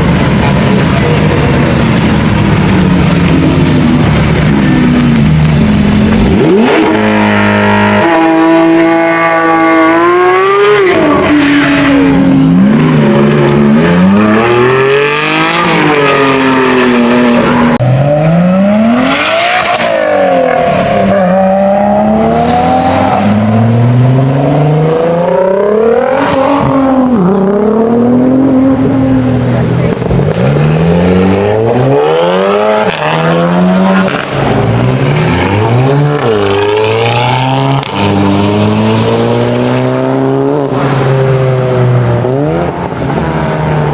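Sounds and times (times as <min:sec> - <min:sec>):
car engines revving: 0:00.0 - 0:43.9.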